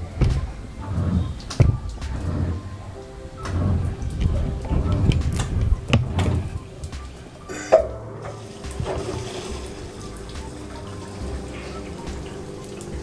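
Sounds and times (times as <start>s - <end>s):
water running into washing machine: 0.0s - 13.0s.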